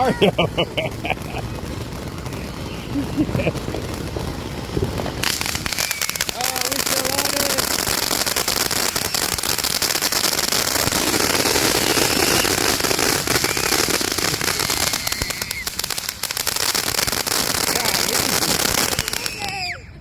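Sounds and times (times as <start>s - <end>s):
firework crackling: 0.0s - 19.9s.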